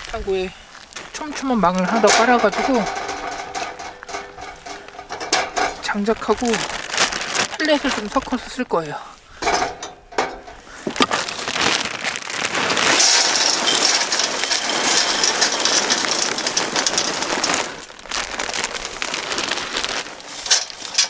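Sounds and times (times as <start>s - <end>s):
pellets pattering onto mesh: 0.8s - 8.6s, 9.4s - 21.0s.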